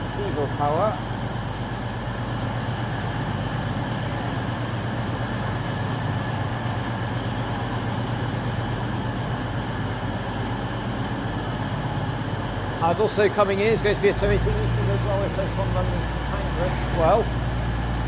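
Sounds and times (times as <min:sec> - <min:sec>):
diesel train engines droning: 0:00.0 - 0:18.0.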